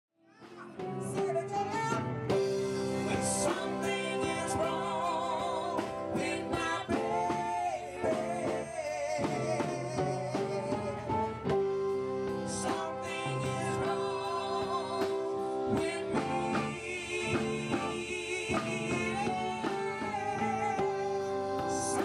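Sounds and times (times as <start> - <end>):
live band playing: 0.3 - 22.0
drums keeping a steady beat: 0.4 - 22.0
woman singing: 1.0 - 2.0, 3.1 - 10.9, 12.5 - 22.0.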